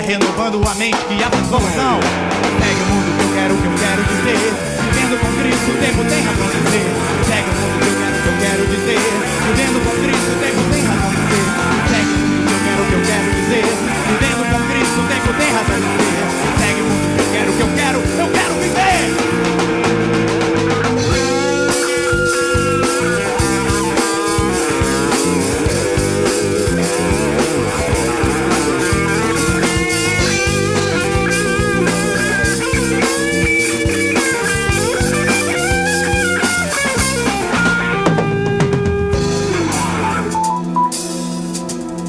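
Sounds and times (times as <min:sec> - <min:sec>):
live rock band playing: 0:00.0 - 0:42.0
electric guitar lead: 0:01.0 - 0:42.0.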